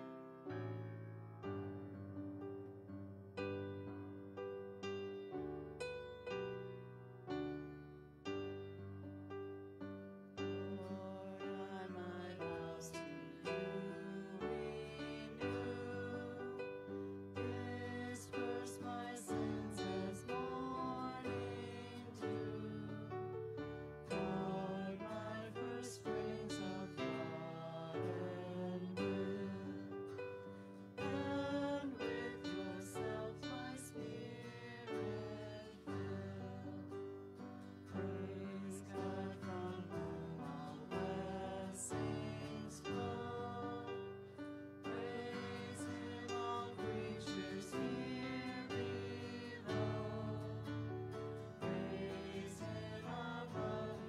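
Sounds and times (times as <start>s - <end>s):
people singing a slow hymn: 10.4s - 54.0s
strummed acoustic guitar: 10.4s - 54.0s.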